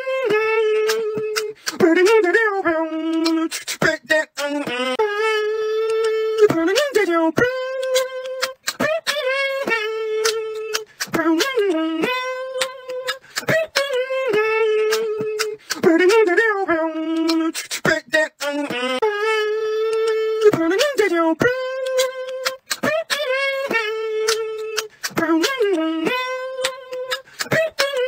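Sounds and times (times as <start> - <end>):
beatbox mouth clicks and pops: 0.0 - 28.0.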